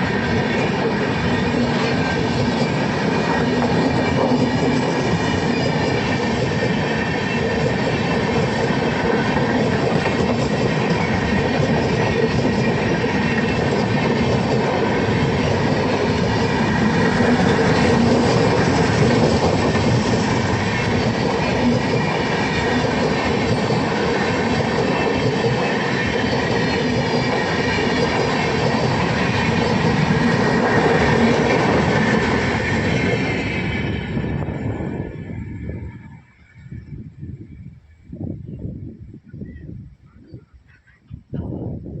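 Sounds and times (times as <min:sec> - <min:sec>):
train wheels clickety-clack: 0:00.0 - 0:34.8
train wheels rumbling on rails: 0:00.0 - 0:40.5.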